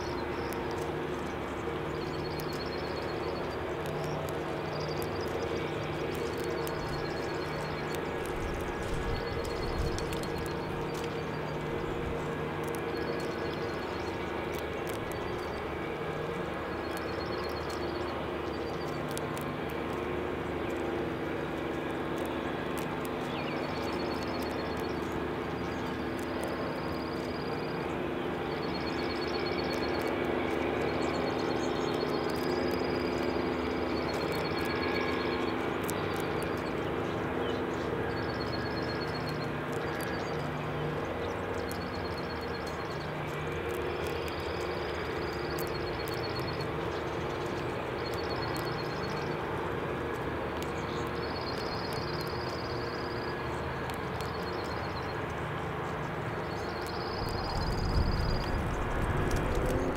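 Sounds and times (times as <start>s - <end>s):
faint sharp clicks: 0.0s - 15.9s, 16.8s - 28.0s, 28.6s - 49.4s, 50.0s - 59.9s
steady low hum: 0.0s - 59.9s.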